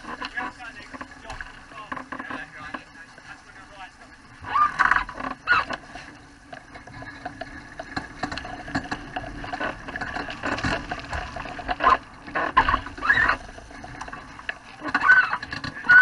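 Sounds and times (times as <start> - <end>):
small knocks and ticks: 0.0 - 4.2, 4.8 - 16.0
water splashing against hull: 0.0 - 16.0.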